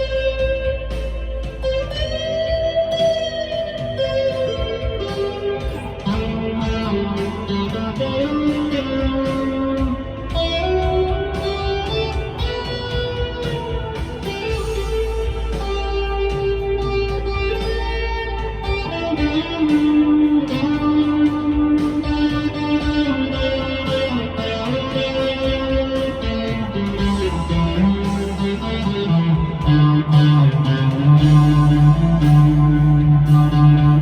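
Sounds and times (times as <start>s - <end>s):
electric guitar melodic line: 0.0s - 34.0s
low bass notes: 0.0s - 34.0s.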